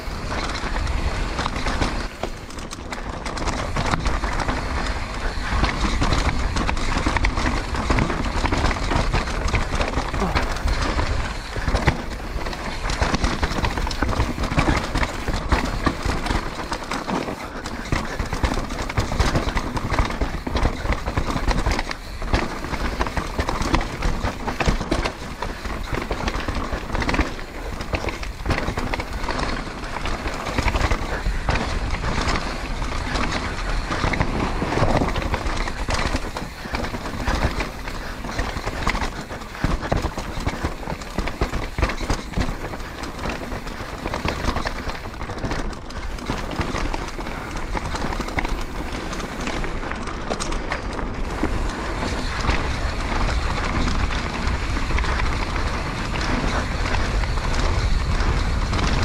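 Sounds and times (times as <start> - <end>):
bike rattling: 0.0 - 59.0
tyres rumbling on dirt: 0.0 - 59.0.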